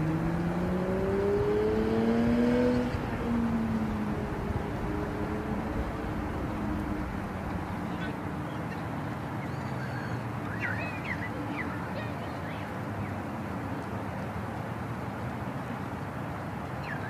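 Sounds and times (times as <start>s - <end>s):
steady rumbling hiss: 0.0s - 17.0s.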